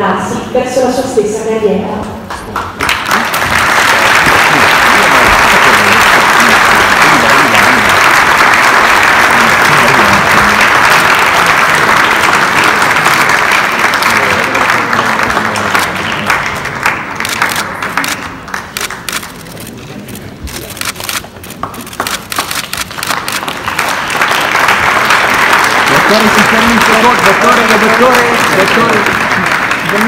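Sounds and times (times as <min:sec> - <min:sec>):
audience applauding: 0:02.2 - 0:19.7, 0:20.6 - 0:30.0.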